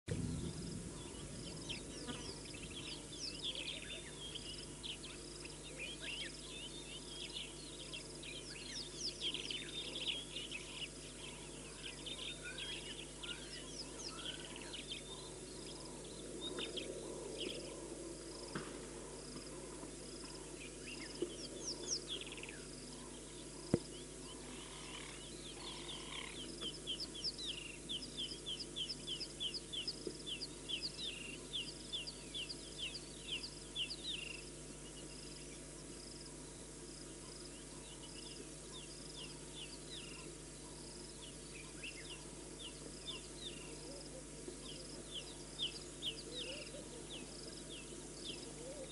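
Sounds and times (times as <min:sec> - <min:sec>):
birds chirping and trilling: 0:00.1 - 0:48.9.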